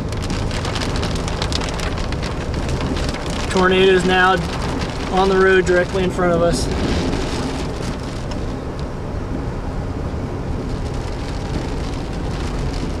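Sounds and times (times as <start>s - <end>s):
car engine running: 0.0s - 13.0s
tyres on wet pavement: 0.0s - 13.0s.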